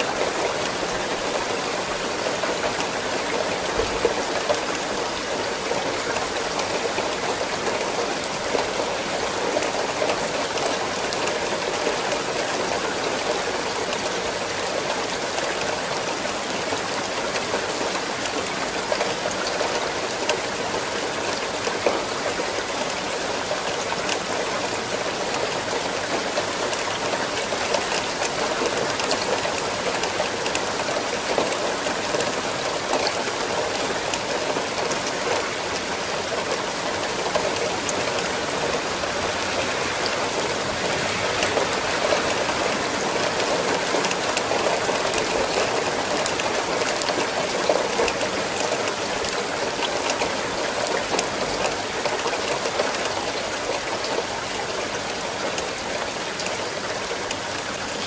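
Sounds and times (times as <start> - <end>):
steady rain hiss: 0.0 - 58.0
raindrops ticking: 0.1 - 58.0.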